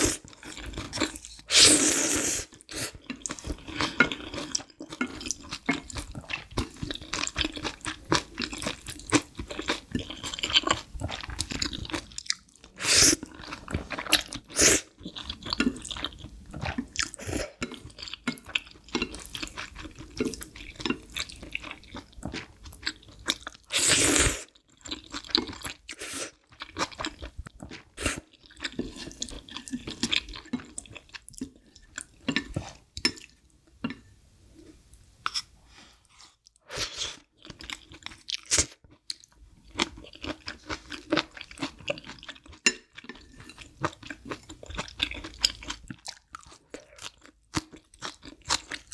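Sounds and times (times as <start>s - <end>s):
wet chewing and mouth sounds: 2.4s - 23.8s, 24.4s - 34.0s, 36.1s - 48.9s.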